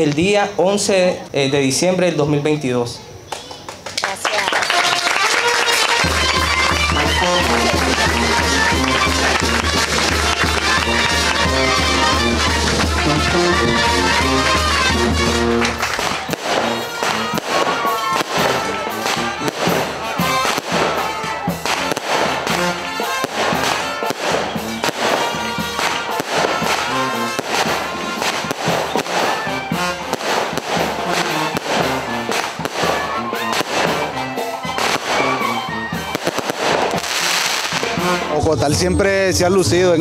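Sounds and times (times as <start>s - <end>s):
rapid crackling pops: 3.7s - 38.2s
fireworks bursting: 4.0s - 39.7s
music: 4.5s - 40.0s.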